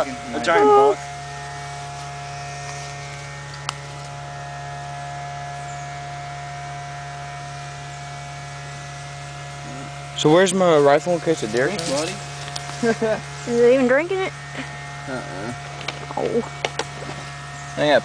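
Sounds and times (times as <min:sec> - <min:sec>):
steady hum of held tones: 0:00.0 - 0:18.0.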